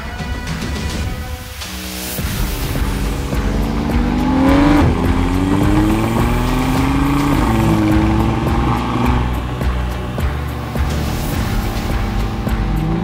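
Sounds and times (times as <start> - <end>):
car engine accelerating: 2.2 - 13.0.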